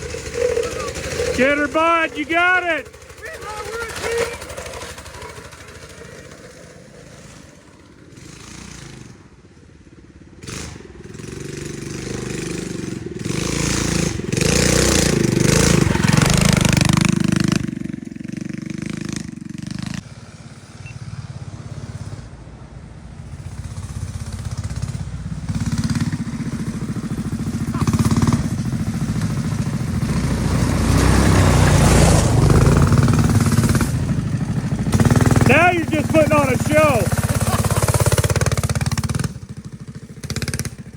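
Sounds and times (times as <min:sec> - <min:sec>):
minibike engines revving: 0:00.0 - 0:09.4, 0:10.0 - 0:40.9.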